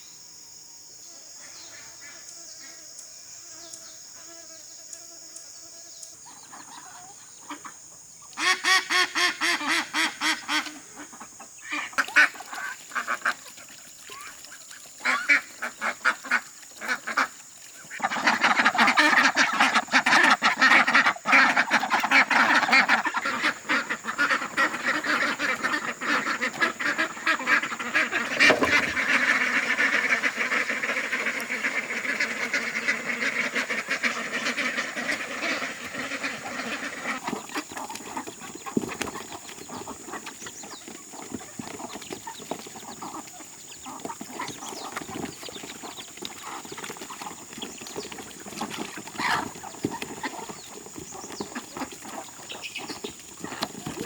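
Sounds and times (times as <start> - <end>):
ducks quacking: 6.3 - 54.0.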